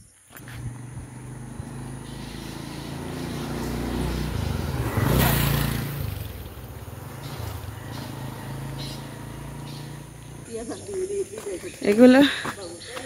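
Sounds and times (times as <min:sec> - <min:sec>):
motorcycle engine passing: 0:00.3 - 0:12.8.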